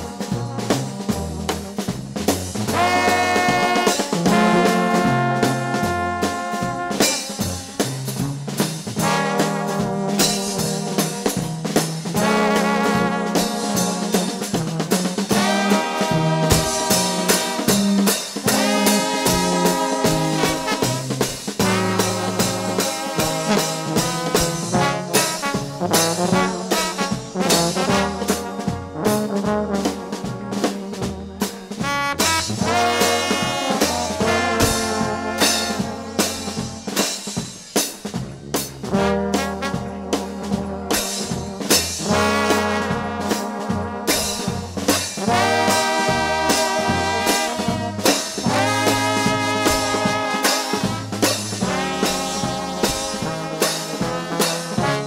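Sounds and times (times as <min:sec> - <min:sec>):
bass line: 0:00.0 - 0:55.0
drums keeping a steady beat: 0:00.0 - 0:55.0
trombones playing in harmony: 0:00.0 - 0:55.0.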